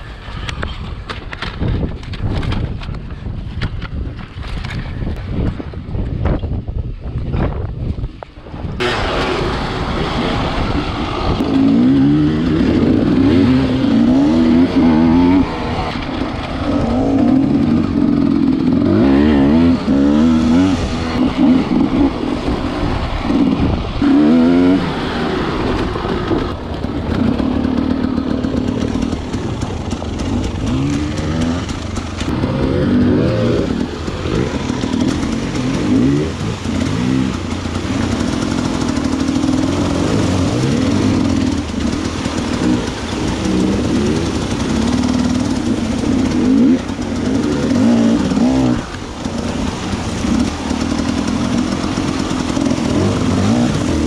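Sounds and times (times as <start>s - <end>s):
dirt bike engine revving: 8.8s - 54.0s.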